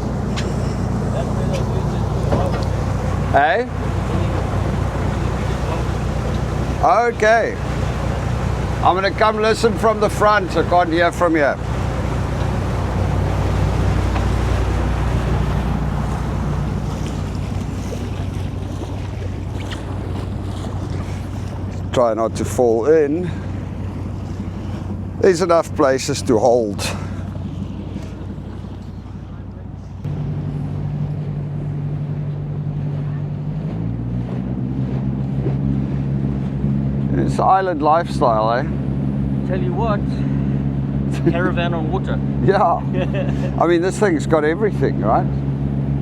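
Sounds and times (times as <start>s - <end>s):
wind buffeting microphone: 0.0s - 37.1s
boat engine humming: 0.0s - 46.0s
water rushing past hull: 0.0s - 46.0s.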